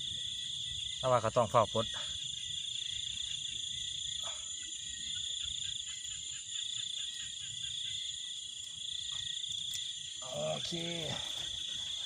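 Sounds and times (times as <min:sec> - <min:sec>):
crickets and insects trilling: 0:00.0 - 0:12.0.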